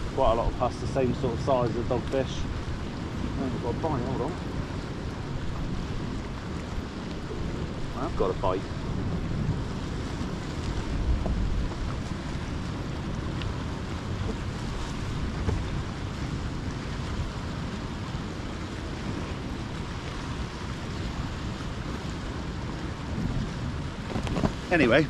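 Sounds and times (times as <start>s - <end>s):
sea waves on rocks: 0.0s - 25.0s
wind noise on microphone: 0.0s - 25.0s.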